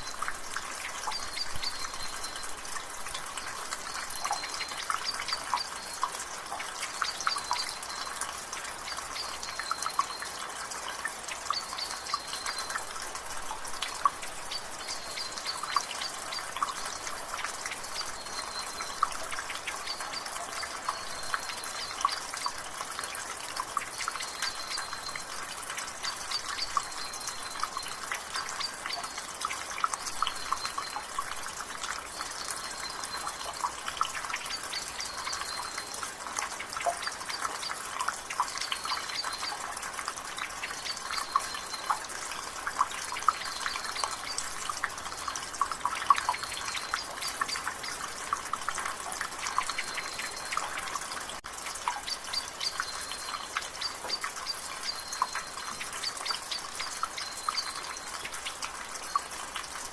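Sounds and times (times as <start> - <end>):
light rain hiss: 0.0 - 59.9
water dripping from gutter: 0.0 - 59.9.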